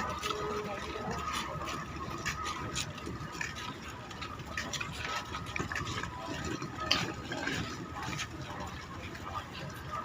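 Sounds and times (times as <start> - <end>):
murmur of people: 0.0 - 10.0.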